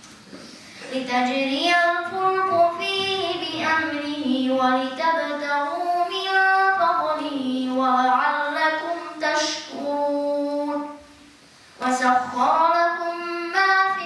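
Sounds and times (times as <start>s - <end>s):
boy chanting into a microphone: 0.8s - 11.1s, 11.8s - 14.0s.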